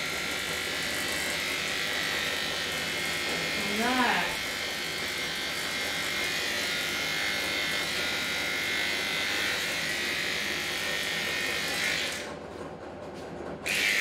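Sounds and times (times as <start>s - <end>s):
electric clipper buzzing: 0.0s - 12.3s, 13.6s - 14.0s.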